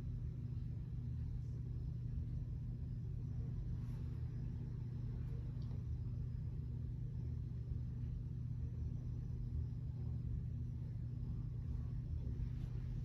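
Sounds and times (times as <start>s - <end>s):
ceiling fan humming: 0.0s - 13.0s.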